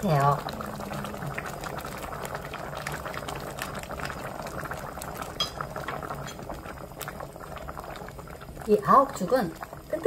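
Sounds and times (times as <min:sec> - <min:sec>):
thick porridge bubbling and popping: 0:00.0 - 0:10.0.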